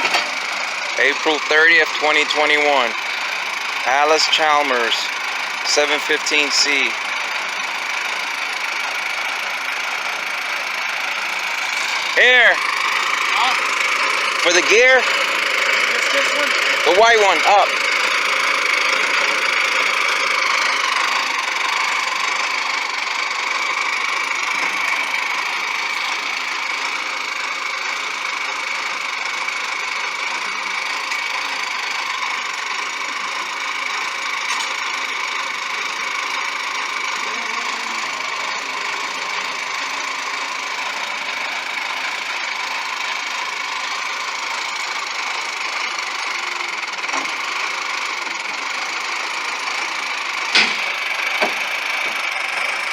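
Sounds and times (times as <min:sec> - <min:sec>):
backhoe engine running: 0:00.0 - 0:52.9.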